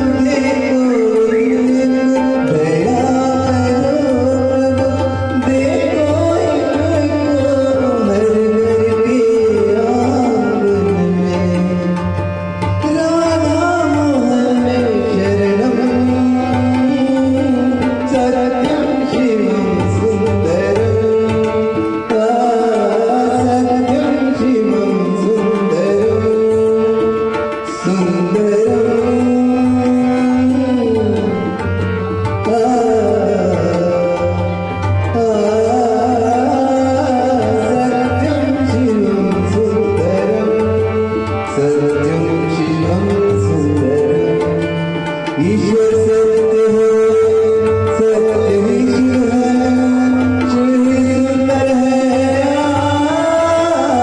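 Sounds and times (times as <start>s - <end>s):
harmonium: 0.0s - 54.0s
man singing: 0.0s - 54.0s
tabla drumming: 0.0s - 54.0s.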